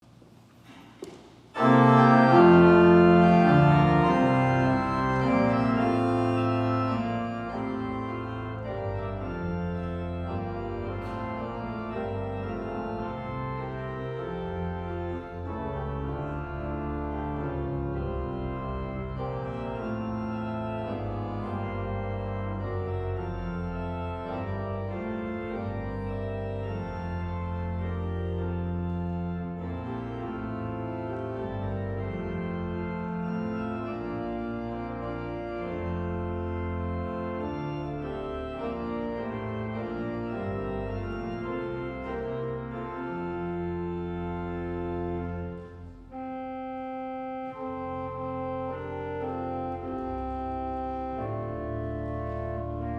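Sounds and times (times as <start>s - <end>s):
pipe organ chords: 0.4s - 52.9s.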